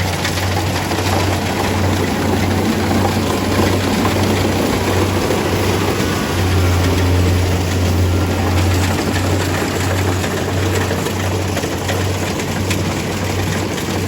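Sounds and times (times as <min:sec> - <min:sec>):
diesel engine humming: 0:00.0 - 0:14.0
harvesting machinery clatter: 0:00.0 - 0:14.0.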